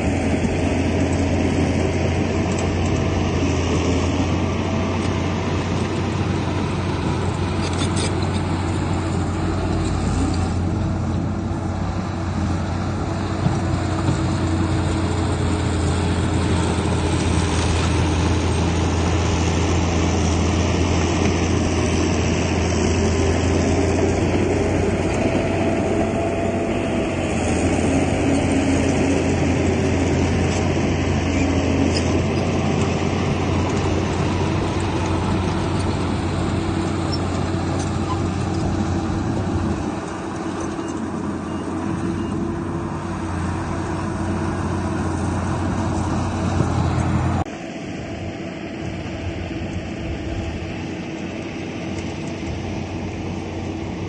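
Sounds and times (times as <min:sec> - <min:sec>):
diesel machinery engine drone: 0:00.0 - 0:54.0.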